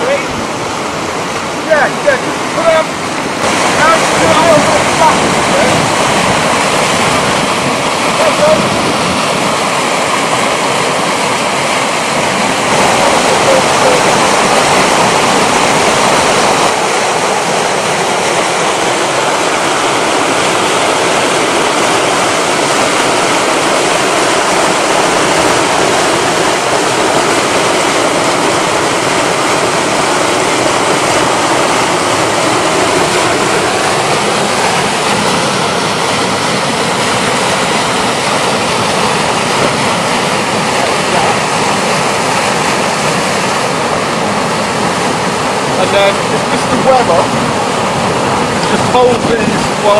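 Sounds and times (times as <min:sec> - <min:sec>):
water rushing over weir: 0:00.0 - 0:49.9.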